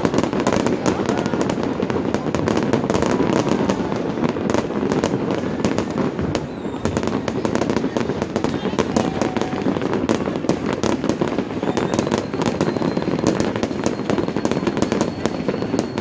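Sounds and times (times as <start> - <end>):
firework bangs and crackles: 0.0 - 16.0.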